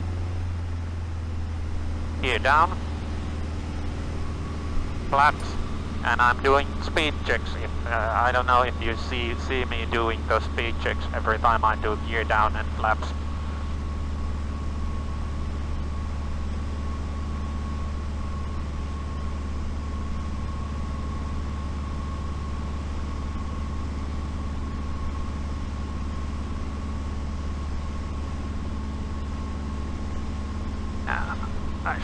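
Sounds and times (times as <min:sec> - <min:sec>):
faint whine: 0:00.0 - 0:32.0
light airplane engine drone: 0:00.0 - 0:32.0.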